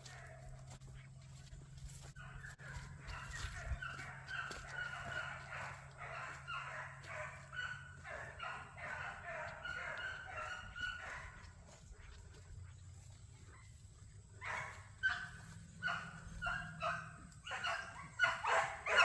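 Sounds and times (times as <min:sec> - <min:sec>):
dogs baying: 0:00.0 - 0:19.0.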